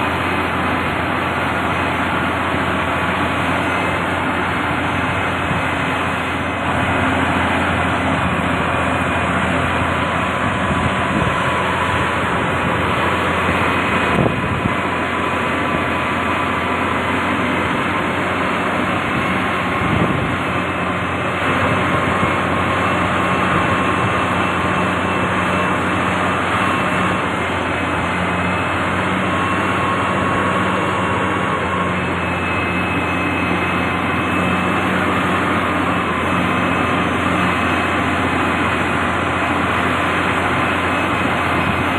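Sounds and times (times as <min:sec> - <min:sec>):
faint high whines: 0:00.0 - 0:41.9
heavy machinery diesel engines: 0:00.0 - 0:41.9.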